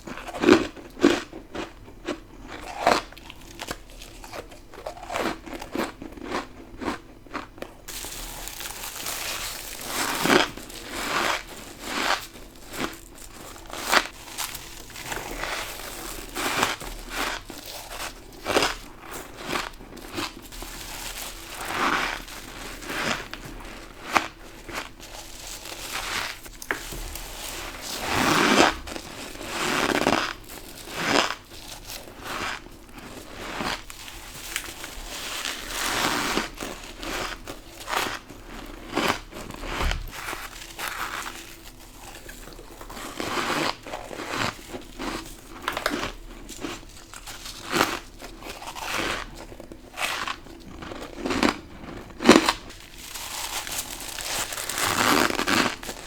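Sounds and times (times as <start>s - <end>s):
chewing crunchy frost: 0.0s - 56.0s.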